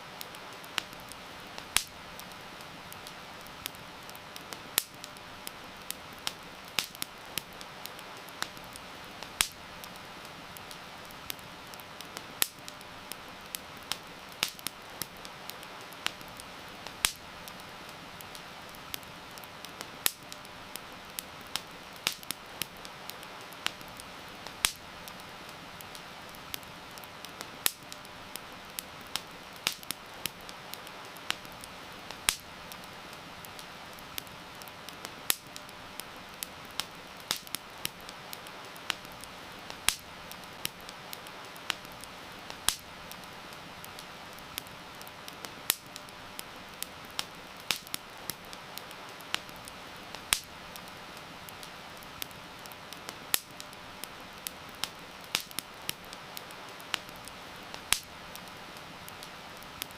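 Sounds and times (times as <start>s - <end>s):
campfire crackling and popping: 0.0s - 59.9s
heavy rain hiss: 0.0s - 59.9s.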